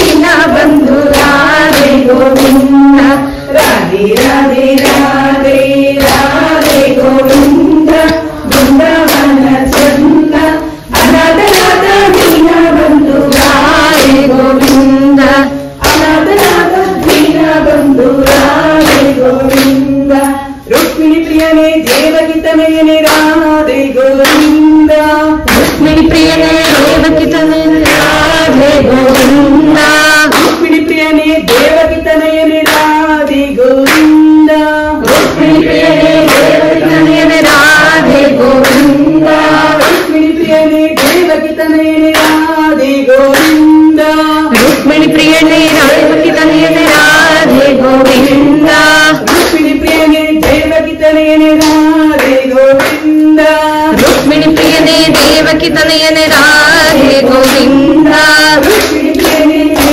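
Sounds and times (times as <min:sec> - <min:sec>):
sharp percussive strokes: 0:00.0 - 0:42.5, 0:43.2 - 0:59.9
group of voices singing: 0:00.0 - 0:59.9.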